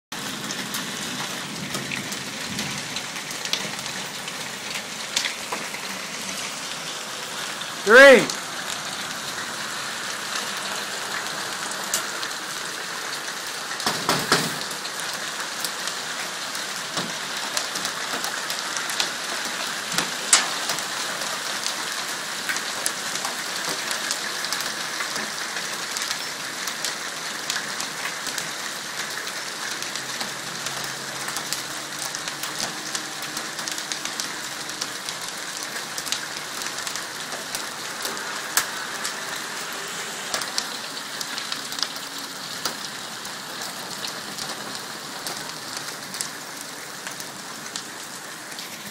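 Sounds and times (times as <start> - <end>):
hail falling hard: 0.2 - 48.9.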